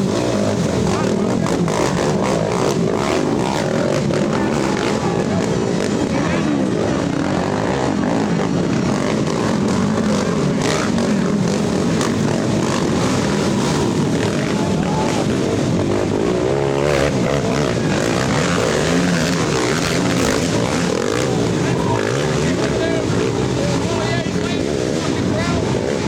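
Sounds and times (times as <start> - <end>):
racing atv engines revving: 0.0 - 26.0.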